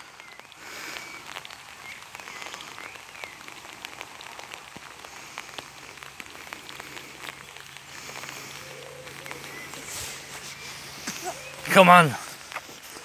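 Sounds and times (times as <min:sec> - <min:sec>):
raindrops ticking nearby: 0:00.0 - 0:13.0
steady rain falling: 0:00.0 - 0:13.0.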